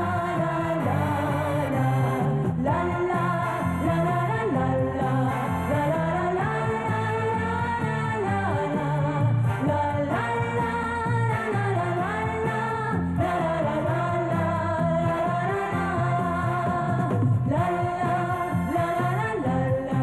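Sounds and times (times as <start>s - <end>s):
light pop song with singing: 0.0s - 20.0s.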